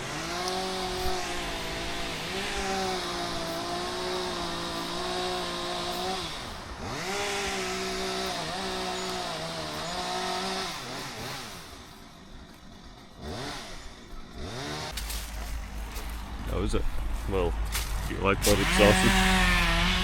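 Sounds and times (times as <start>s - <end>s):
chainsaw revving: 0.0s - 12.1s, 12.8s - 15.2s, 18.4s - 20.0s.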